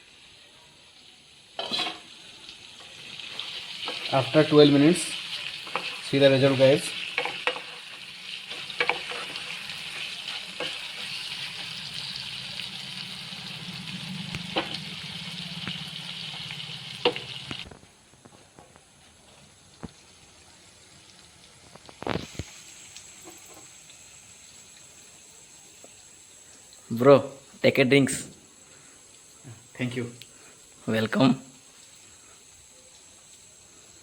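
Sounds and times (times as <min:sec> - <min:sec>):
curry sizzling in a pan: 0:00.0 - 0:34.0.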